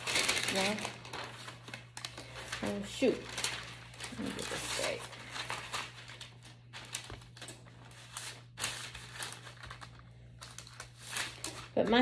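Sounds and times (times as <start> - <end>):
parchment paper crinkling: 0.0 - 12.0.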